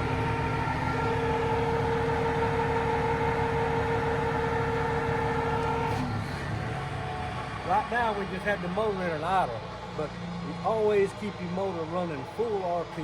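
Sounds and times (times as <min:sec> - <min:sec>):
hydraulic cutter whine: 0:00.0 - 0:11.8
diesel engine idling: 0:00.0 - 0:13.0.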